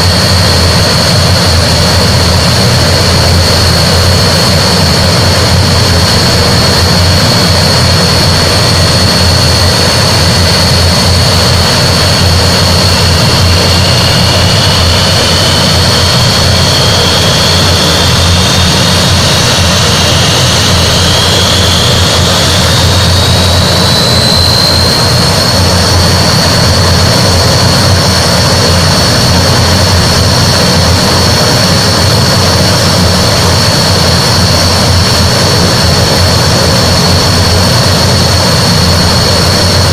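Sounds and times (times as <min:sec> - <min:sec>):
rising engine whine: 0:00.0 - 0:39.9
turboprop engines whining: 0:00.0 - 0:39.9.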